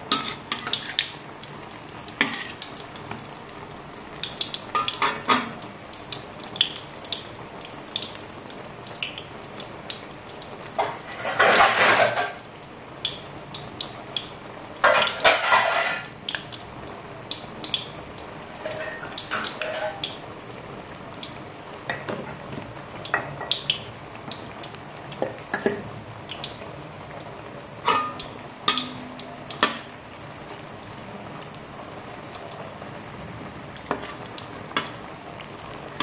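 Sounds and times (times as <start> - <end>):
fritters sizzling in hot oil: 0.0 - 36.0.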